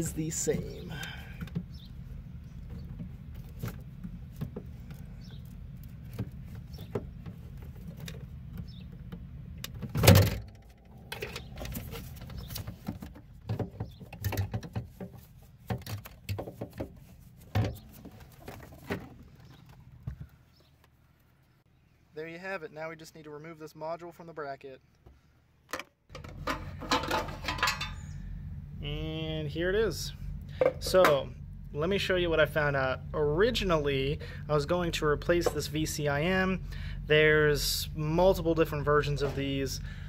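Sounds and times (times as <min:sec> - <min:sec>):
steady low hum: 0:00.0 - 0:22.1, 0:26.1 - 0:40.0.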